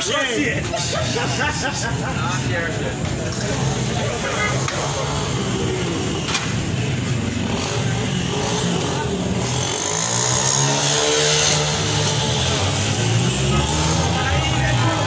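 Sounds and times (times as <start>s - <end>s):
street din: 0.0s - 15.0s.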